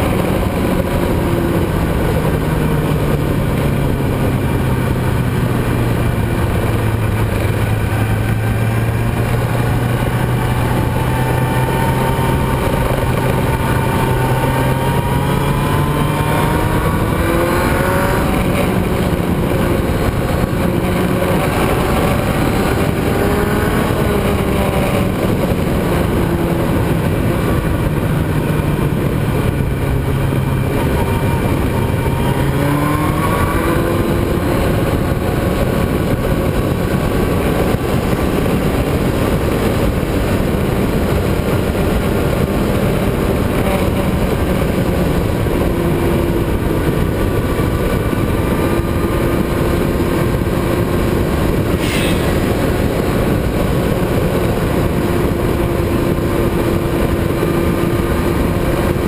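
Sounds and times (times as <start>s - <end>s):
motorcycle engine at speed: 0.0s - 59.0s
wind rush: 0.0s - 59.0s.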